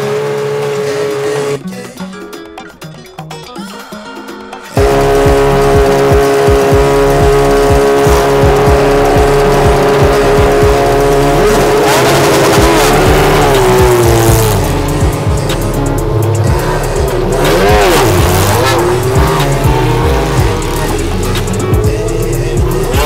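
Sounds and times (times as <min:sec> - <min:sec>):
racing car engines at high revs: 0:00.0 - 0:01.6, 0:04.8 - 0:23.0.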